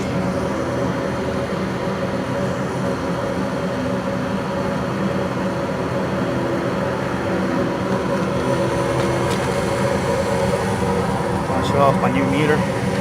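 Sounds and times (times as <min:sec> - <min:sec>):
furnace motor hum: 0:00.0 - 0:13.0.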